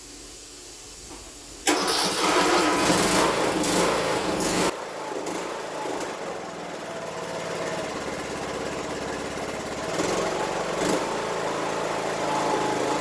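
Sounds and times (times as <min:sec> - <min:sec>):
lawn tractor engine running: 0:01.6 - 0:13.0.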